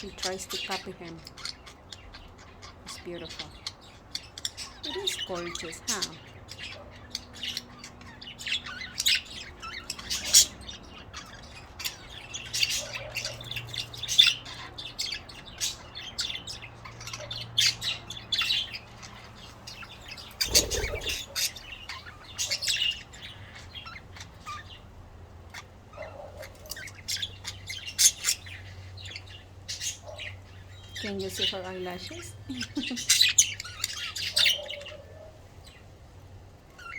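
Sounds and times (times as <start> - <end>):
budgerigars chirping: 0.0 - 36.0.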